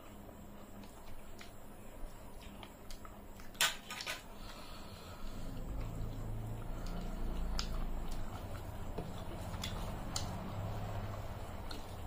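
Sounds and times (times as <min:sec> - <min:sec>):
chewing and wet mouth sounds: 0:00.0 - 0:12.0
steady low hum: 0:00.0 - 0:12.0.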